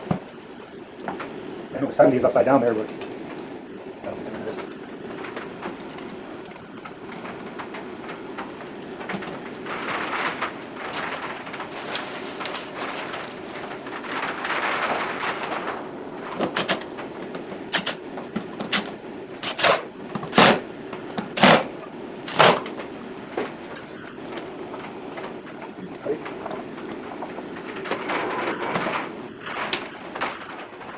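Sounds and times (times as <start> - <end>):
steady low hum: 0.0 - 30.9
sharp clicks and knocks: 4.6 - 30.9.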